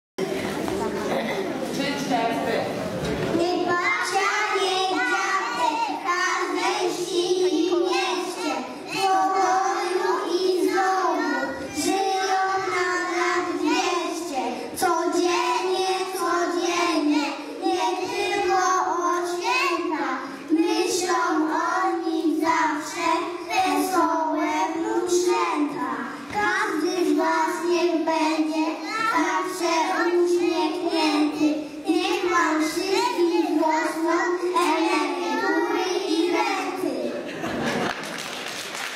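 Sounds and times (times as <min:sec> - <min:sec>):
young children singing in unison: 0:03.3 - 0:37.7.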